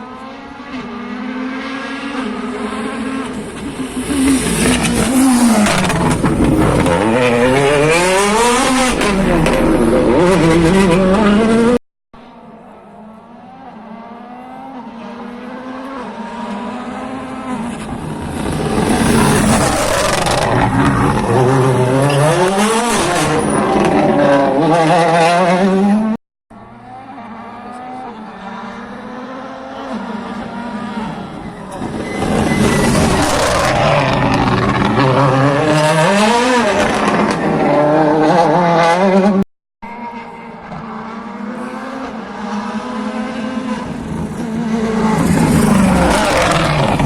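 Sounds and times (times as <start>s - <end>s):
car approaching: 0.0s - 47.0s
rally car engines revving: 0.0s - 47.0s.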